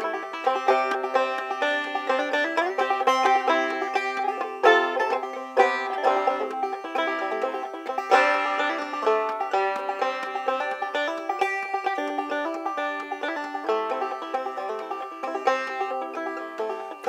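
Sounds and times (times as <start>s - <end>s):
banjo plucked notes: 0.0s - 17.0s.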